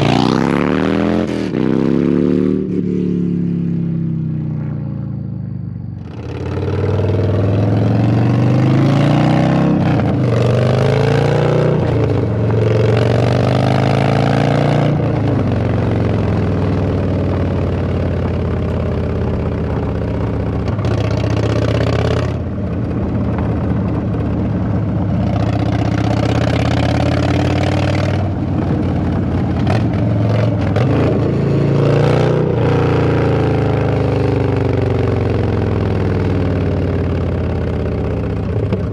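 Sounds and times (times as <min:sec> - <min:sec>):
loud deep motorcycle engine revving: 0:00.0 - 0:03.9, 0:06.0 - 0:38.9.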